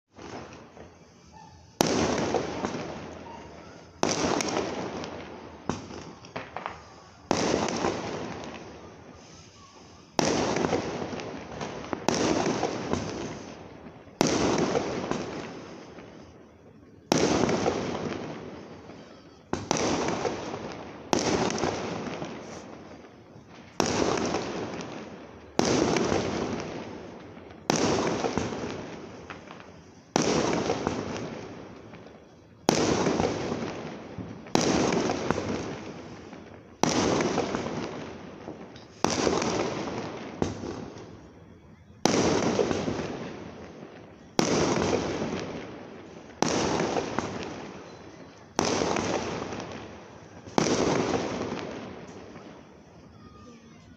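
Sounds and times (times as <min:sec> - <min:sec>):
fireworks bursting: 0:00.1 - 0:53.9.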